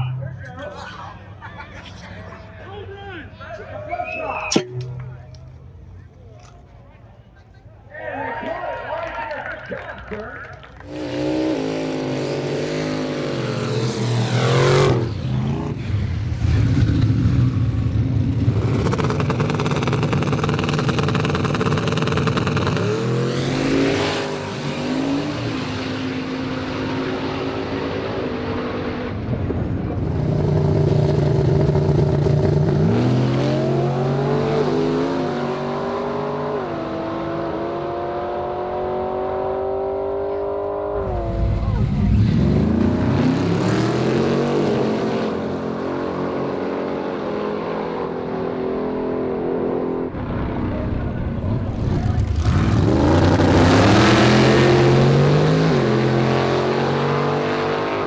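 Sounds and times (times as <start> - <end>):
car engine revving: 10.8 - 58.0.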